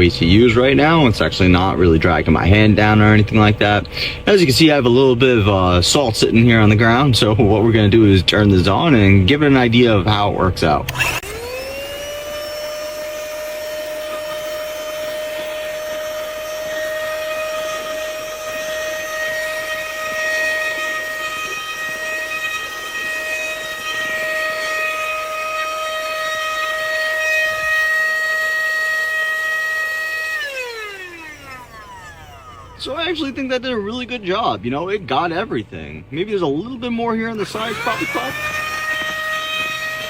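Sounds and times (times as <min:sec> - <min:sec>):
handheld vacuum cleaner whining: 0:00.0 - 0:34.7, 0:37.2 - 0:40.0.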